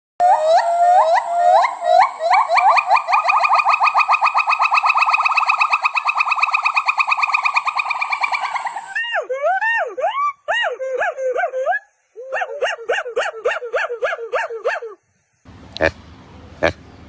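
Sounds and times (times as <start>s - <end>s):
monkey calling with whistle-like notes: 0.2s - 15.0s.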